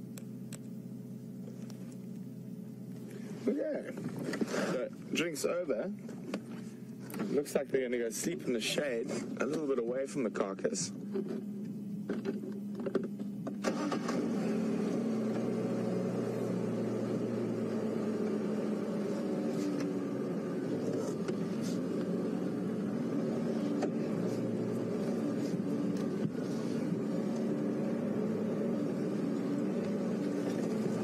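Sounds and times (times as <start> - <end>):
vehicle engine starting and humming: 0.0 - 31.0.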